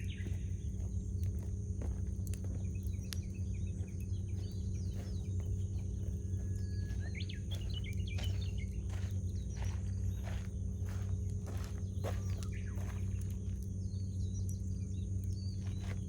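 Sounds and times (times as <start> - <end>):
small birds chirping: 0.0 - 16.0
campfire crackling and popping: 0.4 - 9.5, 10.5 - 16.0.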